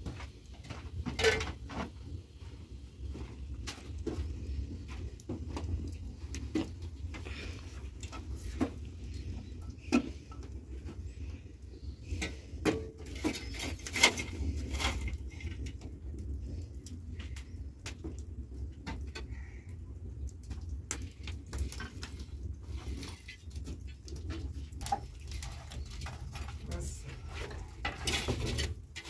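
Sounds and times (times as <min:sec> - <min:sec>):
knocks and scrapes tending fire: 0:00.0 - 0:29.0
wood fire crackling and popping: 0:00.0 - 0:29.0
low steady rumble: 0:02.0 - 0:29.0.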